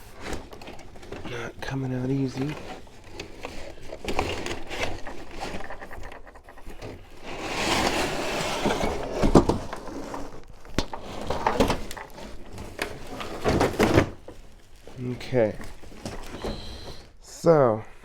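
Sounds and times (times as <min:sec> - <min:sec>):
cardboard scraping and rustling: 0:00.0 - 0:17.2.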